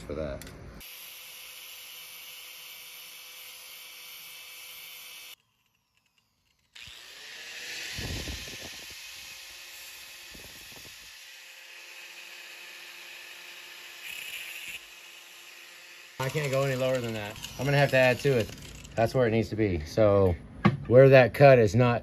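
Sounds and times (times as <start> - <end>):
angle grinder grinding metal: 0.8 - 19.3.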